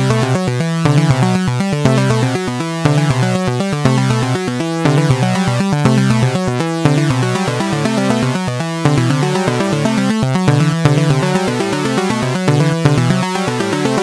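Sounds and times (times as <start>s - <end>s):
electronic music with bass: 0.0s - 14.0s.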